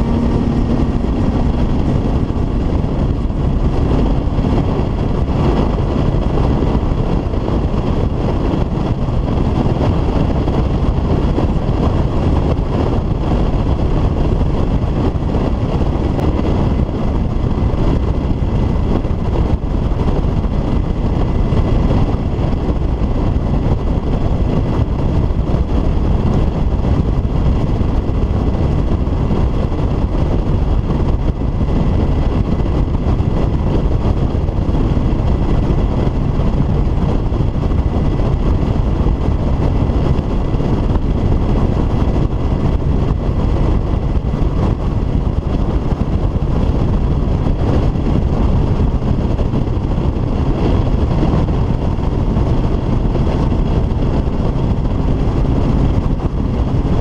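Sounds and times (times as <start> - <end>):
outboard motor droning: 0.0 - 57.0
wind rushing on microphone: 0.0 - 57.0.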